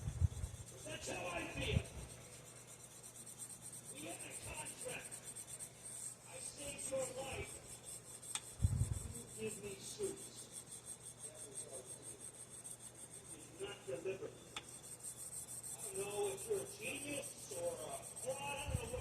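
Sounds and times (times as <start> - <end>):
sandpaper rubbing on knife blade: 0.0 - 13.8, 14.7 - 19.0.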